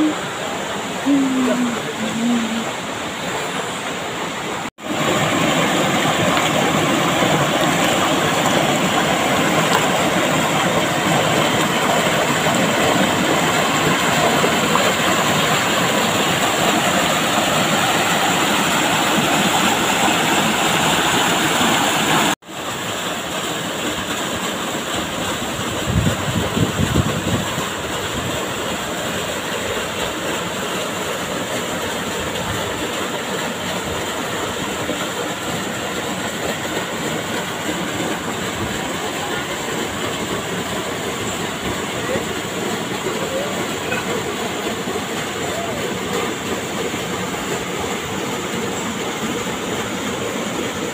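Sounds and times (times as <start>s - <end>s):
waterfall pouring into a pool: 0.0s - 50.9s
waterfall rushing: 0.0s - 50.9s.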